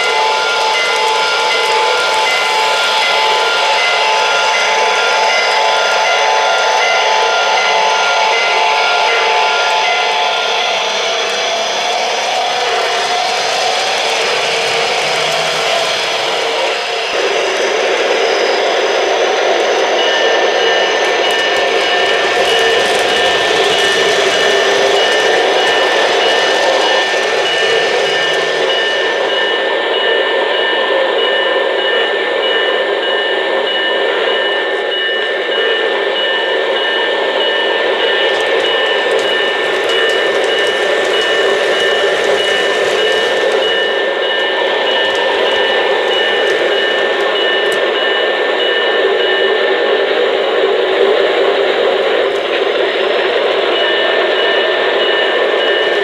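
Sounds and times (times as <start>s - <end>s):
high whining tones: 0.0s - 56.0s
model train rushing noise: 0.0s - 56.0s.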